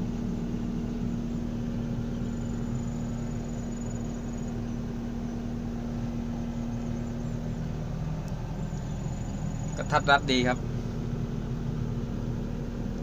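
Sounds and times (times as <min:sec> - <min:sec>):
excavator diesel engine idling: 0:00.0 - 0:13.0.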